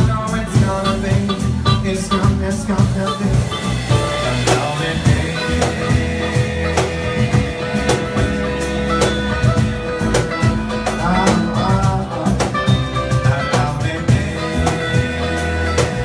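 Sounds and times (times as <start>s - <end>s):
acoustic guitar strumming: 0.0s - 16.0s
drum beat: 0.0s - 16.0s
electric bass: 0.0s - 16.0s
electric guitar: 0.0s - 16.0s
man singing: 0.0s - 16.0s.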